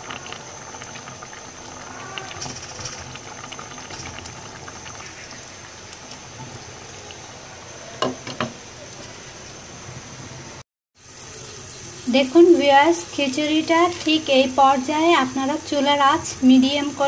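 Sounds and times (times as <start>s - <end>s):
pot boiling and bubbling: 0.0s - 17.0s.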